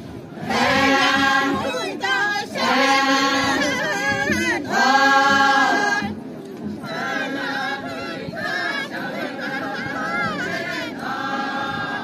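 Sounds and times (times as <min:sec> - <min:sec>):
women singing in unison: 0:00.4 - 0:12.0.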